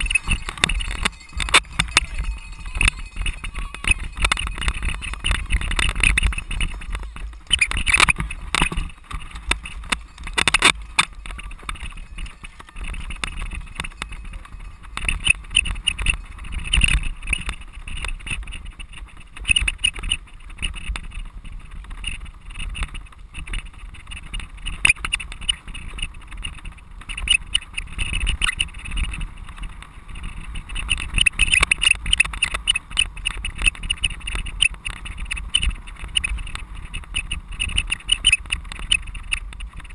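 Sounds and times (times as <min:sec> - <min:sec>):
bike rattling over grass: 0:00.0 - 0:39.9
wind buffeting microphone: 0:00.0 - 0:39.9.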